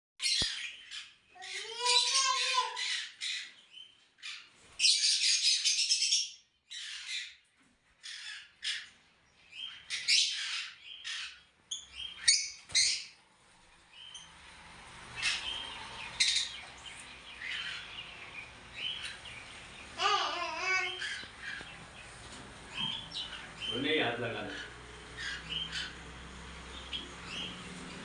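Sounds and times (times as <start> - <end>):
lovebirds squawking and chirping: 0.2 - 28.0.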